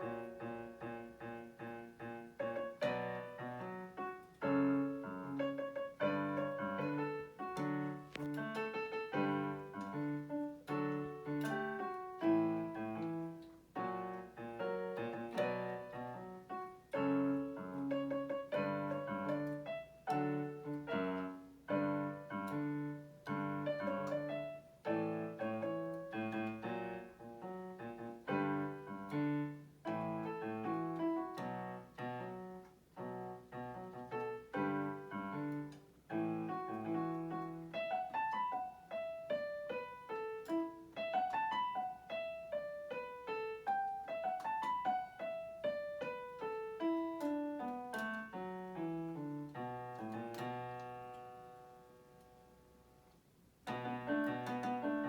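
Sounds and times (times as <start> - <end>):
solo piano on electronic keyboard: 0.0 - 55.0.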